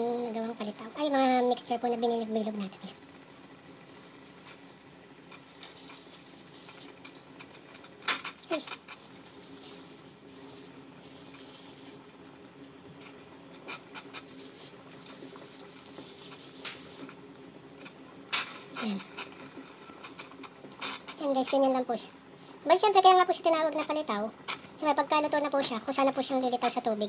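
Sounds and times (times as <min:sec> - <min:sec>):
water boiling in a pot: 0:00.0 - 0:27.0.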